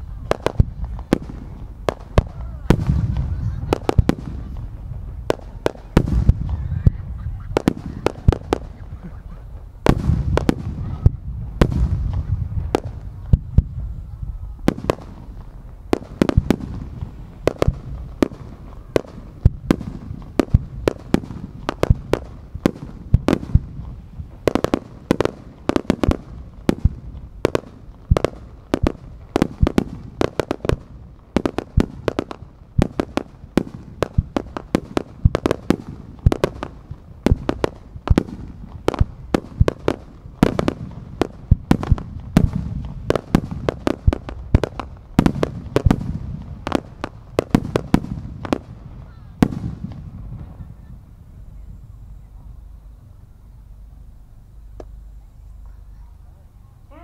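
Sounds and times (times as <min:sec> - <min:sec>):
fireworks bangs and cracks: 0:00.0 - 0:53.9, 0:54.6 - 0:56.2.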